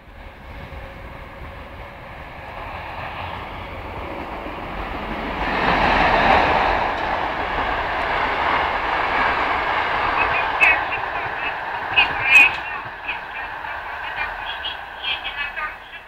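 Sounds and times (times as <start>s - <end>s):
passing train wheels rolling: 0.0s - 16.0s.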